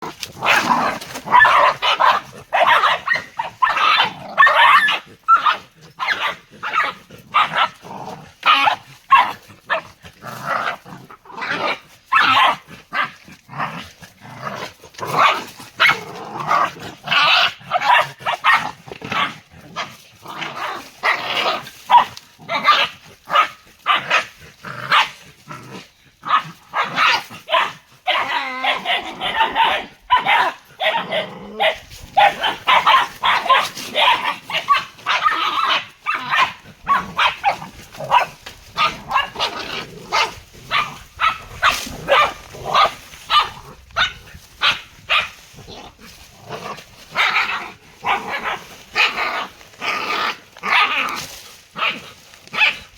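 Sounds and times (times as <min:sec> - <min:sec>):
dogs barking and growling: 0:00.0 - 0:52.9.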